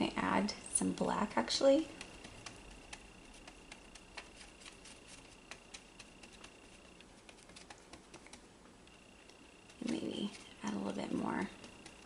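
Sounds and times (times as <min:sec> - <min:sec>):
paintbrush ticking on plastic palette: 0:01.8 - 0:12.0.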